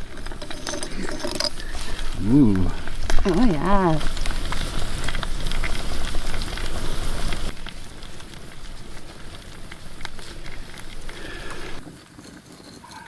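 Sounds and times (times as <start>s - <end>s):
campfire crackling and sizzling: 0.0s - 13.0s.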